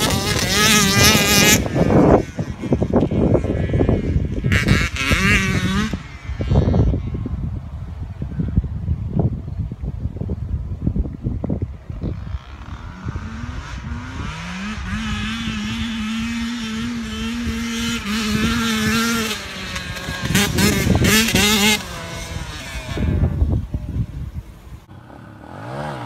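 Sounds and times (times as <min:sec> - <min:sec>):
dirt bike engine revving: 0:00.0 - 0:07.6, 0:11.9 - 0:26.0.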